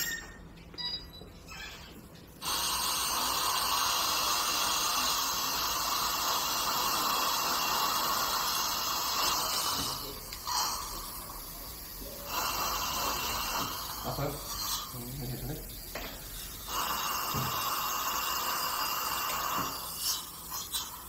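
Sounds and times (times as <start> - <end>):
dental drill with water spray hiss: 0.0 - 0.3, 1.6 - 21.0.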